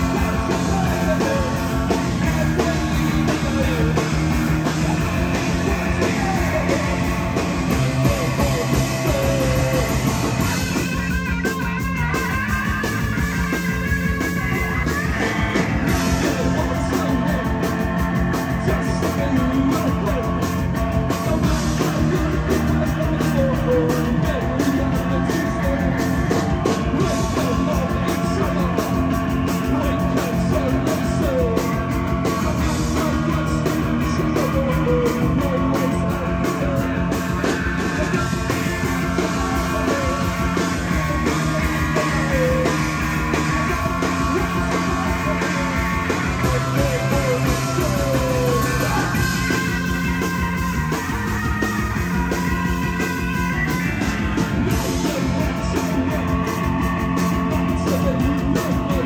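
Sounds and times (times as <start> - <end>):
dense drumming: 0.0 - 59.0
electric guitar strummed: 0.0 - 59.0.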